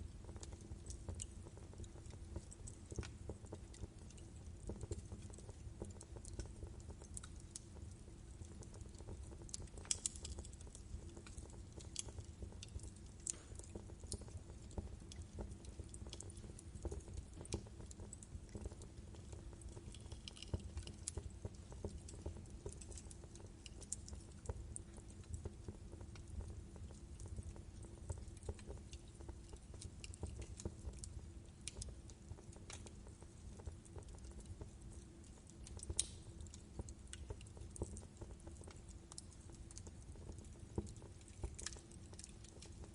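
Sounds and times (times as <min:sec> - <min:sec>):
low rumble of flames: 0:00.0 - 0:42.9
wood fire crackling and popping: 0:00.0 - 0:42.9.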